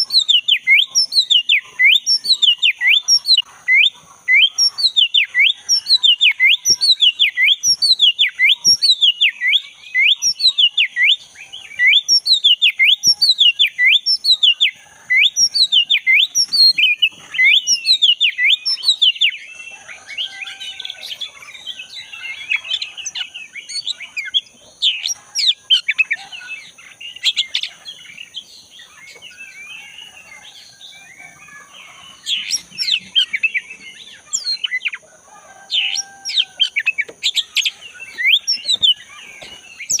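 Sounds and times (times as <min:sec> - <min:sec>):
bird whistling song: 0:00.0 - 0:35.0, 0:35.6 - 0:40.0
bird warbling: 0:00.0 - 0:40.0.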